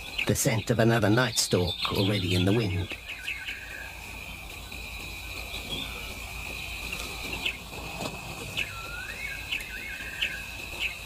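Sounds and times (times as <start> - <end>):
high insect trill: 0.0 - 11.0
swooping whistled call: 0.0 - 11.0.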